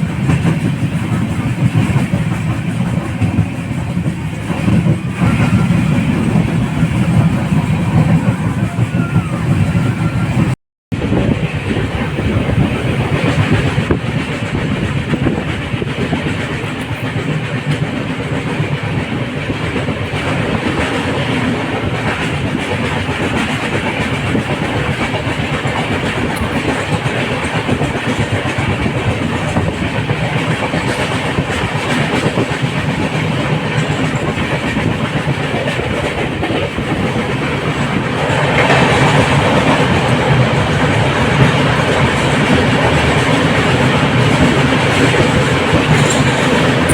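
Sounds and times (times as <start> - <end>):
train coach rumbling with wheel clatter: 0.0 - 46.9.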